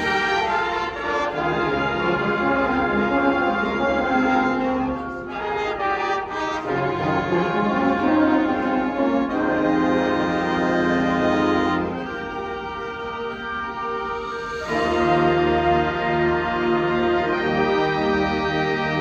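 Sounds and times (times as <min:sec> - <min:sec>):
wind ensemble playing chords: 0:00.0 - 0:19.0.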